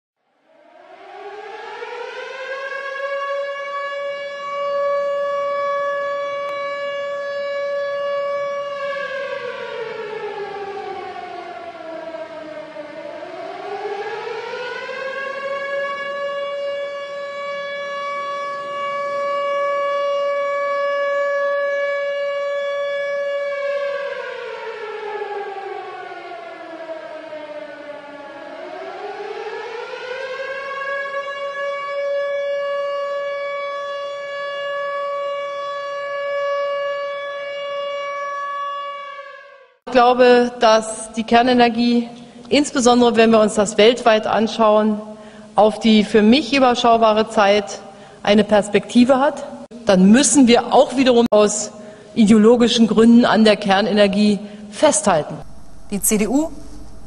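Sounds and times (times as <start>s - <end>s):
siren wailing: 0.4s - 41.1s, 49.4s - 57.0s.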